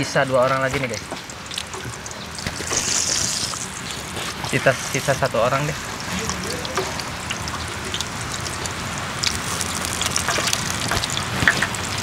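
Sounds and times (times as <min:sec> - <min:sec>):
tofu sizzling in hot oil: 0:00.3 - 0:12.0.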